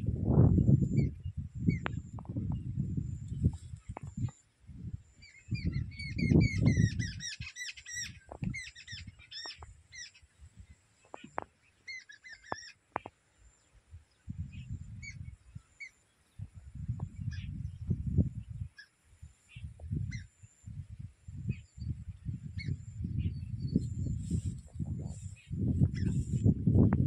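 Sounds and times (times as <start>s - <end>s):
wind rumbling on microphone: 0.0s - 11.6s, 12.4s - 15.7s, 16.3s - 27.0s
small birds chirping: 0.6s - 4.5s, 5.1s - 20.7s, 21.4s - 26.5s.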